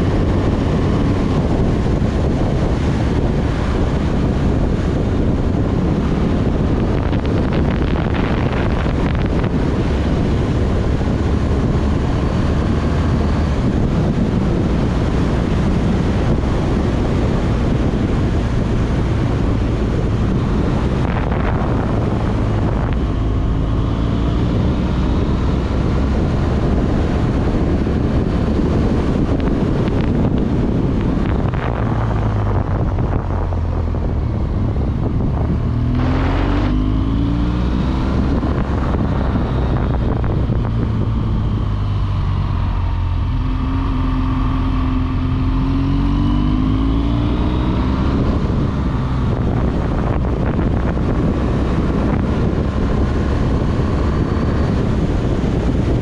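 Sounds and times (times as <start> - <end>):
motorcycle engine running: 0.0 - 56.0
wind rush over microphone: 0.0 - 56.0.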